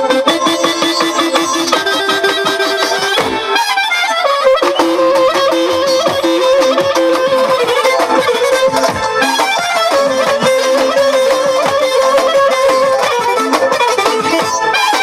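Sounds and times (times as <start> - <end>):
steady drum beat: 0.0 - 15.0
wind instrument melody: 0.0 - 15.0.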